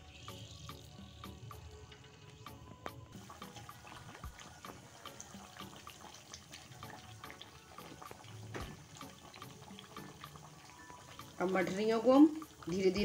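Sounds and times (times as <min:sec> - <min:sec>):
oil crackling and bubbling: 0:00.0 - 0:13.0.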